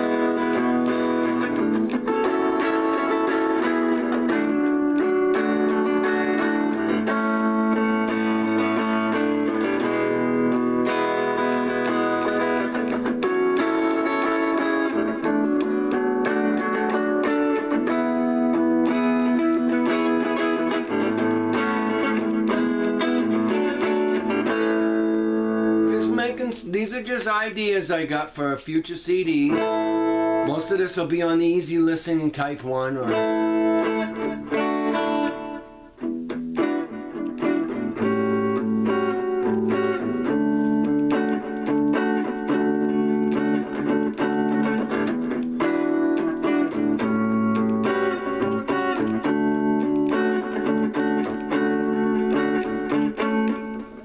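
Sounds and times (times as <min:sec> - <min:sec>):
clean electric guitar: 0:00.0 - 0:28.0, 0:29.0 - 0:54.0.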